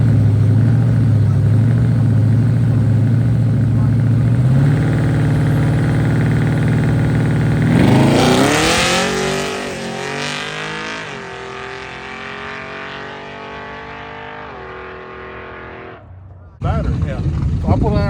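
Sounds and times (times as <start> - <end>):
drag racing engine revving: 0.0 - 18.0.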